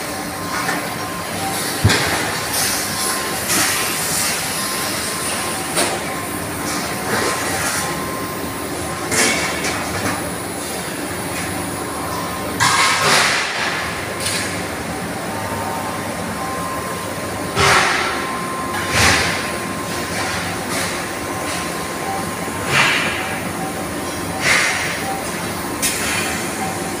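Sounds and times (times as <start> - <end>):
faint machine whine: 0.0 - 27.0
industrial machinery noise: 0.0 - 27.0.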